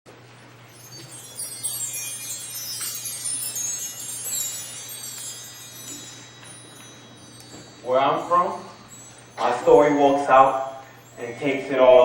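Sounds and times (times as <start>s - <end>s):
steady low hum: 0.1s - 12.0s
metal chimes tinkling: 0.4s - 12.0s.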